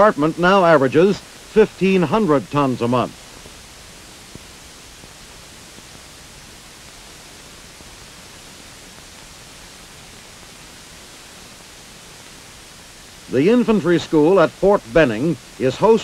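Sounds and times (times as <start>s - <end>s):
film soundtrack hiss: 0.0s - 16.0s.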